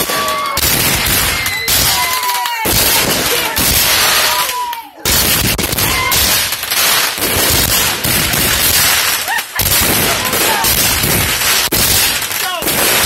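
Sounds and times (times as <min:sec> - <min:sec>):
fireworks exploding and crackling: 0:00.0 - 0:13.0.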